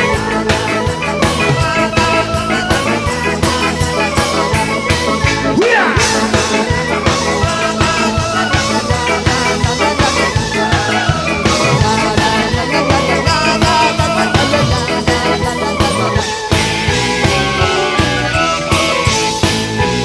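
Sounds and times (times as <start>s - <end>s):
rock music with guitar and drums: 0.0s - 20.0s.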